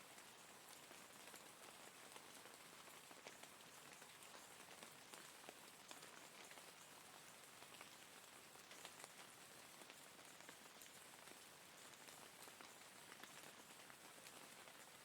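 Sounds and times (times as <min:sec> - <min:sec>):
steady rain patter: 0:00.0 - 0:15.0.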